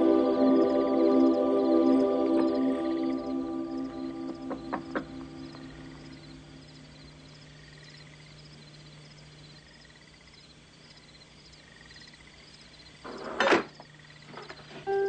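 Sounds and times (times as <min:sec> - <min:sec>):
low steady hum: 0:00.0 - 0:13.0
insects chirping: 0:00.0 - 0:15.0.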